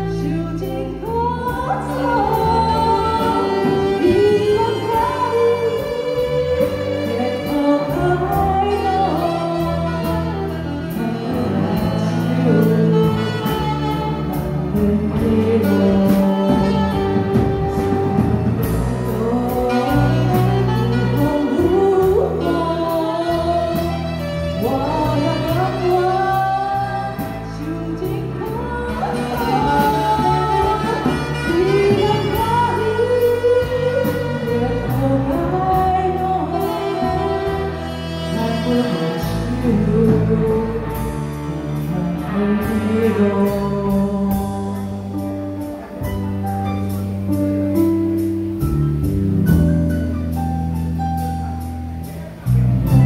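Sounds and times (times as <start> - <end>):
woman singing into microphone: 0.0 - 46.4
live band playing: 0.0 - 53.0.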